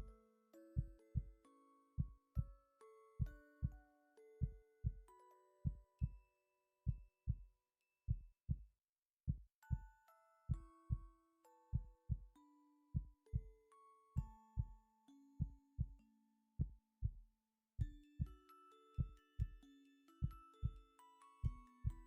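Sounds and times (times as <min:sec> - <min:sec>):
soft chiming melody: 0:00.0 - 0:08.0, 0:09.6 - 0:16.9, 0:17.8 - 0:22.0.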